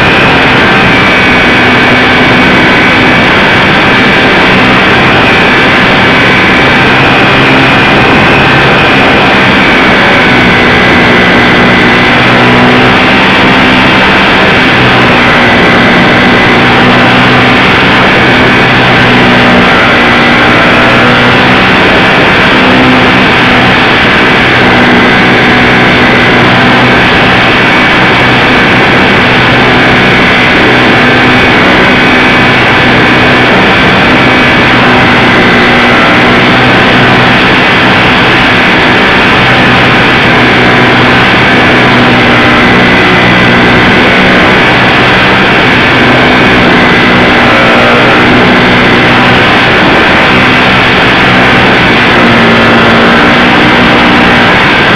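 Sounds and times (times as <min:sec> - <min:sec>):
model plane motor and propeller: 0:00.0 - 0:54.9.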